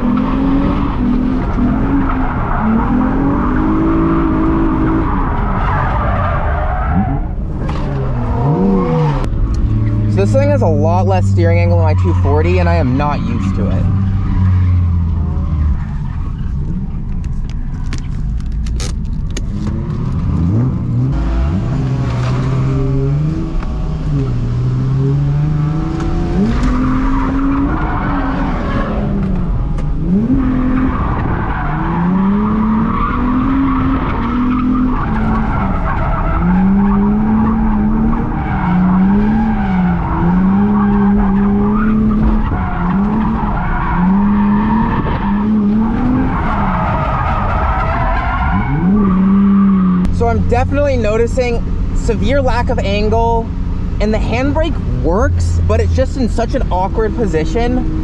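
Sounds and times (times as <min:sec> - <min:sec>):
car engine revving: 0:00.0 - 0:58.0
tires squealing: 0:00.0 - 0:58.0.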